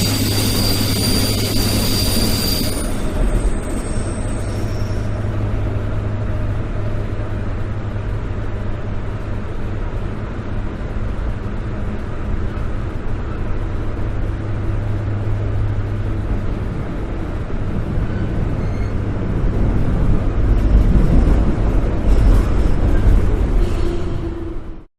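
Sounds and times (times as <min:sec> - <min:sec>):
subway train rumbling: 0:00.0 - 0:24.9.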